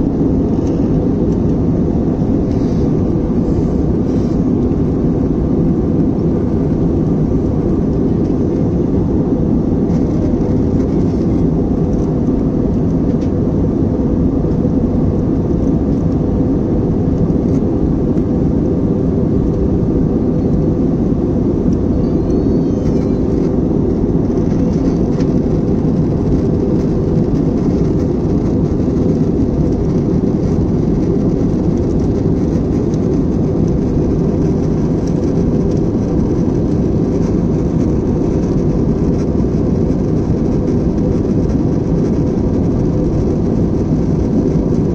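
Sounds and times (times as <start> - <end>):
jet airliner cabin noise: 0.0 - 44.9.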